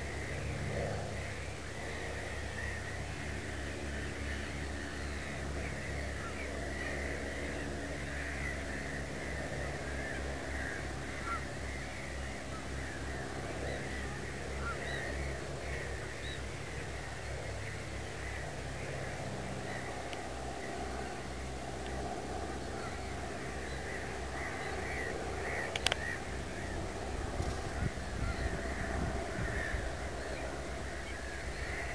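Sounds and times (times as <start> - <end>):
birds chirping: 0.0 - 31.9
steady low hum: 0.0 - 31.9.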